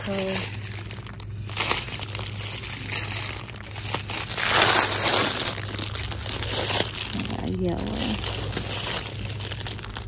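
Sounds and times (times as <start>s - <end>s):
cellophane bags crinkling: 0.0s - 10.0s.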